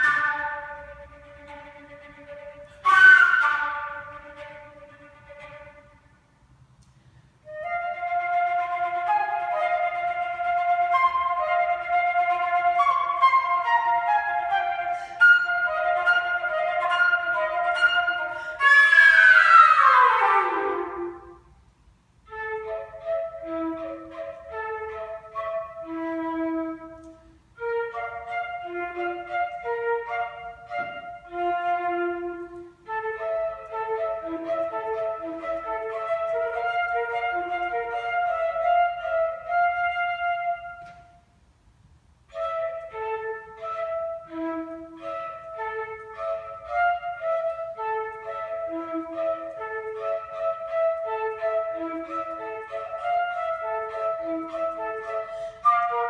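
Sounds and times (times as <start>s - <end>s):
solo flute playing: 0.0s - 6.3s, 7.4s - 21.6s, 22.3s - 41.4s, 42.2s - 56.0s.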